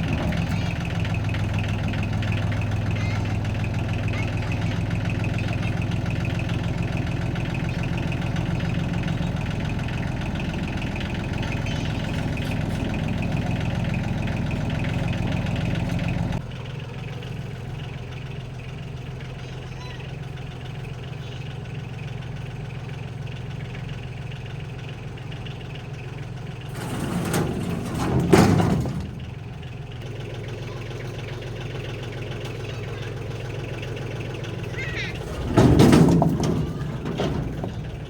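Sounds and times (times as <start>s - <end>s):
engine idling: 0.0s - 38.0s.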